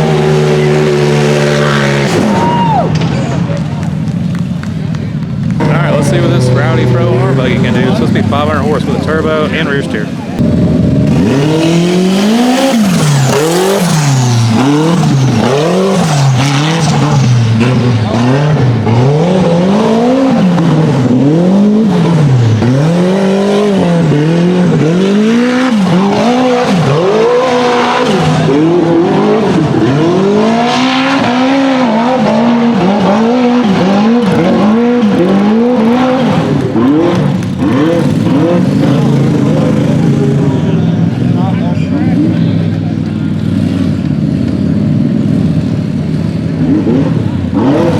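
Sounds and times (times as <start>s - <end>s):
buggy engine revving hard: 0.0s - 47.9s.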